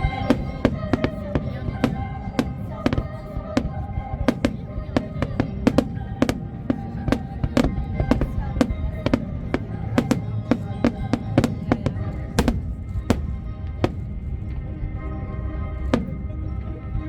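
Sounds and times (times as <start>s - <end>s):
fireworks bangs: 0.0s - 14.2s
music with held notes: 0.0s - 17.0s.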